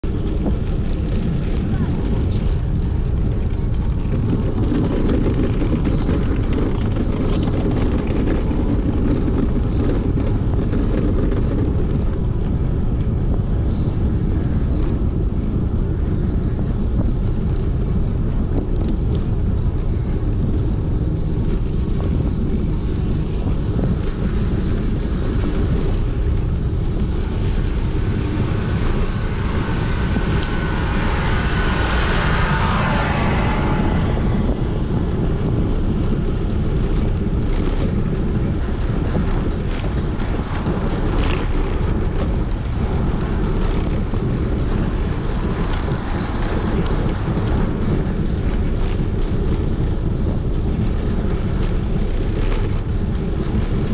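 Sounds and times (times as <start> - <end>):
bicycle tyre noise on road: 0.0 - 53.9
wind rumble on microphone: 0.0 - 53.9.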